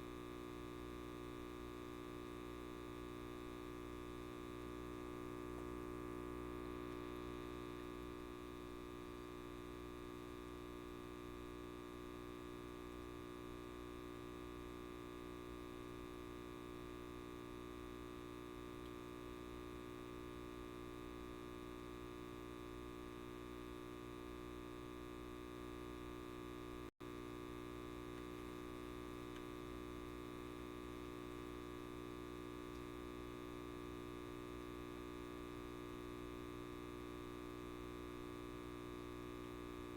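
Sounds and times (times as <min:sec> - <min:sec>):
light bulb buzzing: 0:00.0 - 0:39.9.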